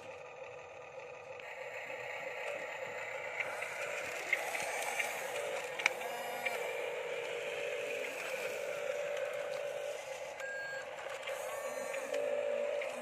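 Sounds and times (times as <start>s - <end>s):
toy electric motor and gearbox whine: 0.0s - 13.0s.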